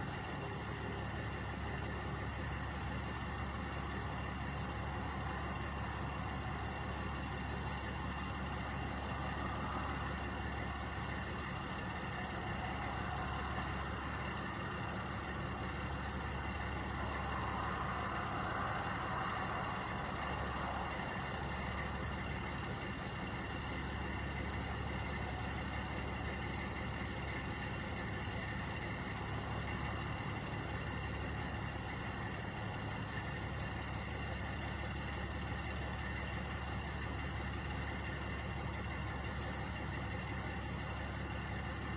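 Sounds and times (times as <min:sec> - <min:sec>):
truck engines idling: 0:00.0 - 0:41.9.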